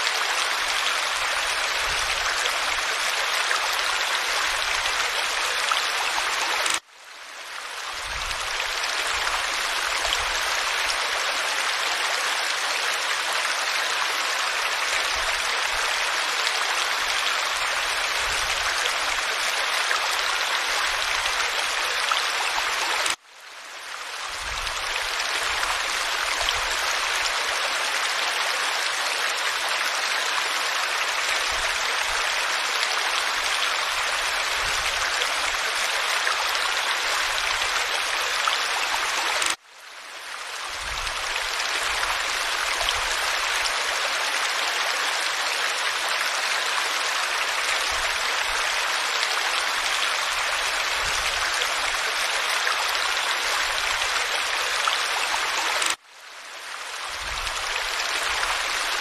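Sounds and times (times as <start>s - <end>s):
stream pouring over cascade: 0.0s - 59.0s.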